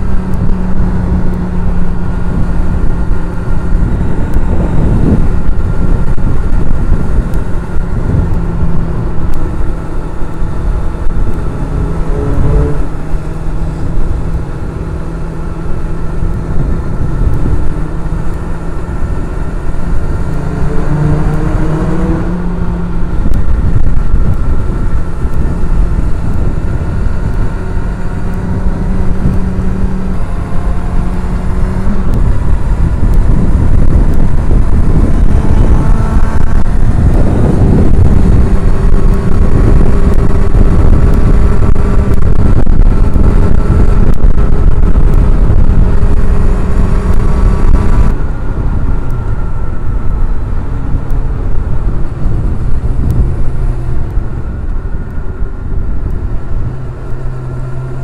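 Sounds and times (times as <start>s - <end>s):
motorcycle engine: 0.0s - 58.0s
wind buffeting microphone: 0.0s - 58.0s.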